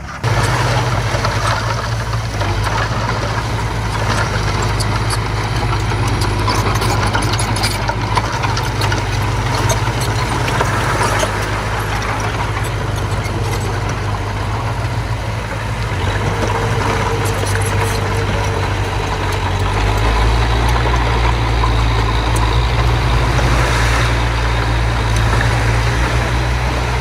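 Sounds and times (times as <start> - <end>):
light clanks and rattles: 0.0 - 27.0
earthmoving machine engine humming: 0.2 - 27.0.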